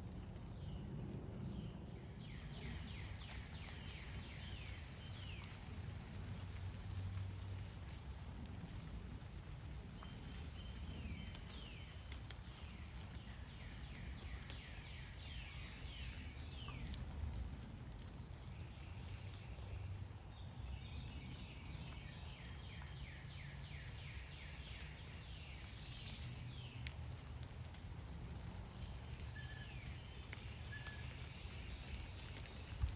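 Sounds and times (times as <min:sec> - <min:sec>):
songbirds chirping: 0:00.4 - 0:32.9.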